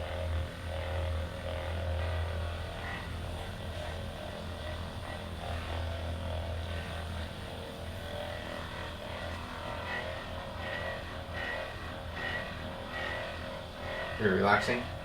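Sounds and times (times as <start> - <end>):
massage gun motor buzz: 0.0 - 15.0.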